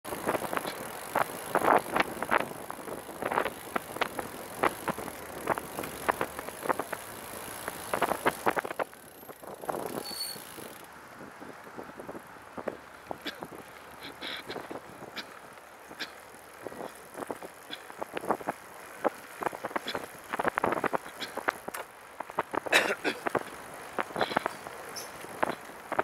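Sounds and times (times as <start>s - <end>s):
trike clicks and rattles: 0.1s - 10.9s, 12.6s - 26.0s
road and wind hiss: 0.1s - 26.0s.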